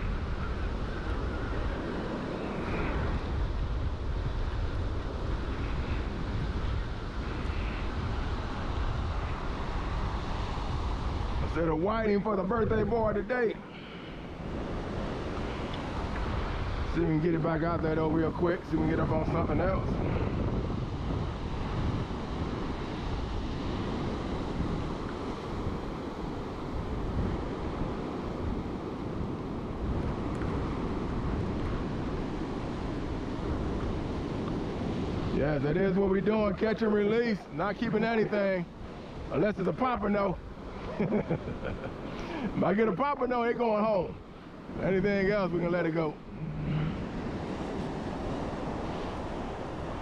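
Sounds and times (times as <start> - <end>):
surf breaking on beach: 0.0 - 50.0
wind buffeting microphone: 0.0 - 50.0.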